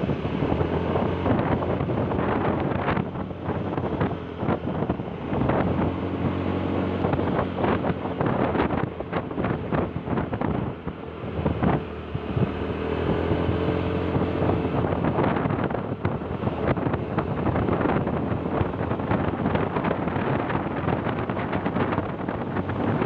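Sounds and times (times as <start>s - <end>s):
vehicle engine running: 0.0s - 23.0s
wind buffeting microphone: 0.0s - 23.0s.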